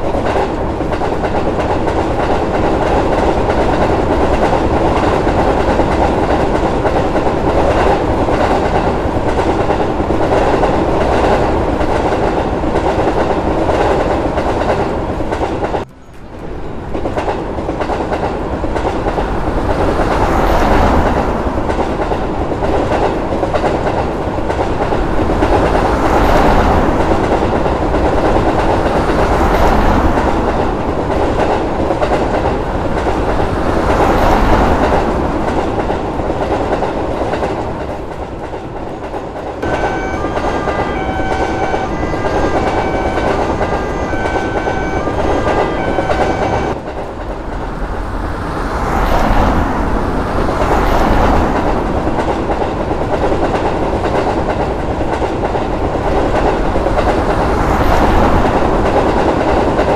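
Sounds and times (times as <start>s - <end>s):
train rumbling on rails: 0.0s - 59.9s
wheels clacking over rail joints: 0.0s - 59.9s.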